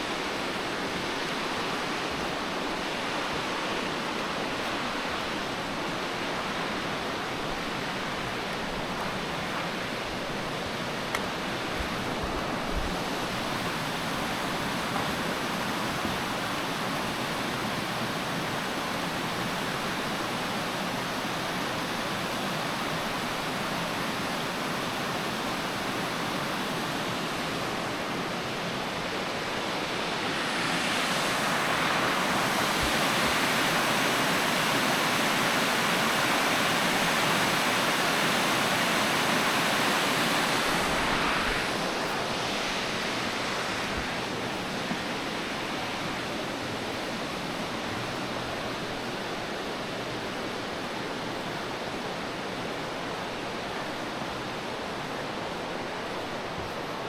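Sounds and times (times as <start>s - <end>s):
rushing river water: 0.0s - 57.0s.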